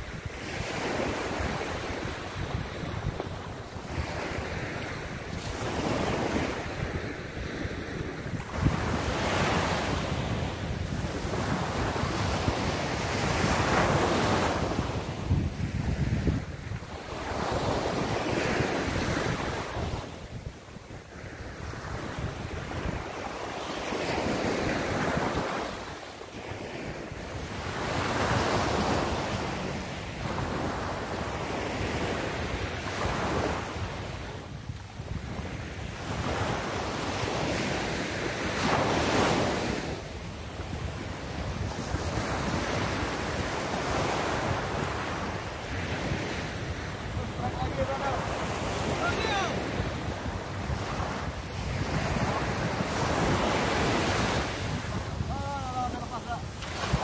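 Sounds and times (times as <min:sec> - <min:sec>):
small waves breaking on sand: 0:00.0 - 0:57.0
wind rumble on microphone: 0:00.0 - 0:57.0.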